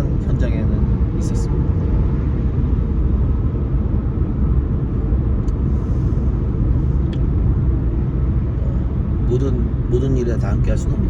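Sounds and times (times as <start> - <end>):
road and engine noise: 0.0 - 11.0.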